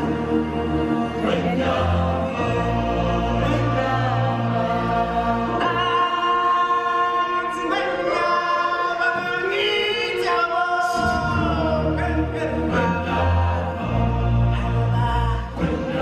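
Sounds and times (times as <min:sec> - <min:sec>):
voices singing in harmony: 0:00.0 - 0:16.0.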